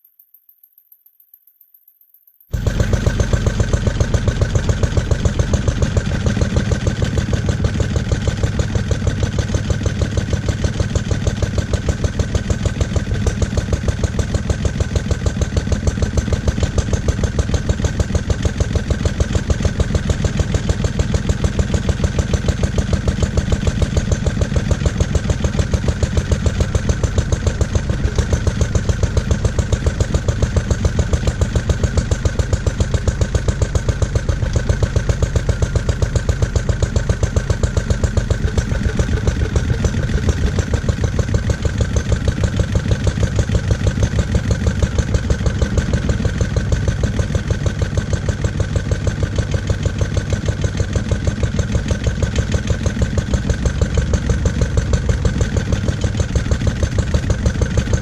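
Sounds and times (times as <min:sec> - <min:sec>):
stationary engine running: 0:02.5 - 0:58.0.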